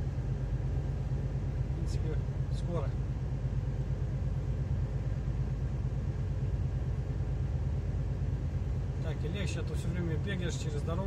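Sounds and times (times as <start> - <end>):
diesel engine drone: 0.0 - 11.0
road noise: 0.0 - 11.0.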